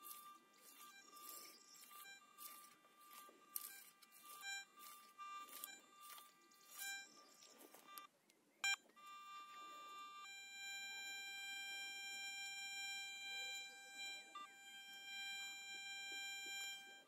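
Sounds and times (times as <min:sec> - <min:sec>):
metal detector tones: 0:00.0 - 0:17.0.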